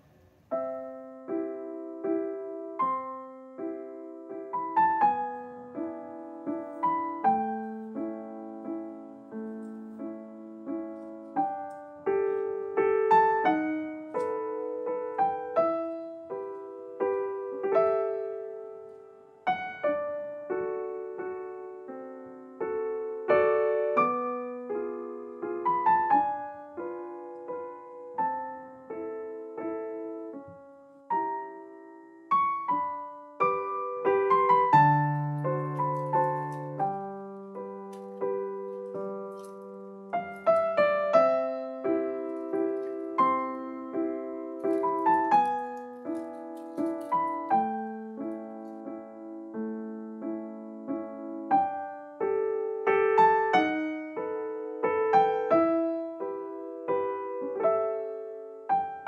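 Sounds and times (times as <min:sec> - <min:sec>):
slow piano music: 0:00.0 - 0:59.0.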